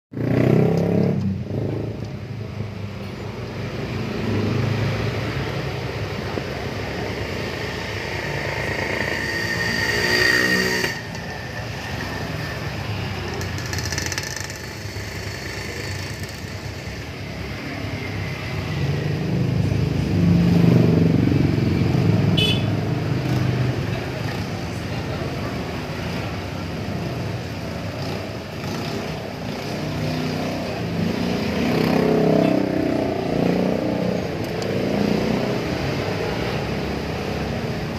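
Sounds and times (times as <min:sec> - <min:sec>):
vehicle engines running: 0:00.1 - 0:37.9.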